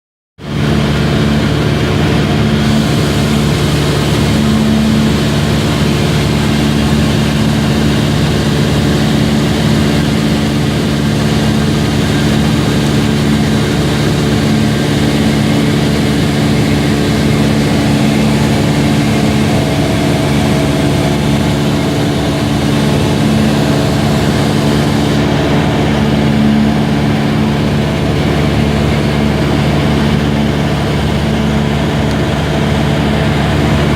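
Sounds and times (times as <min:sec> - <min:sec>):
propeller aircraft engine droning: 0:00.4 - 0:33.9.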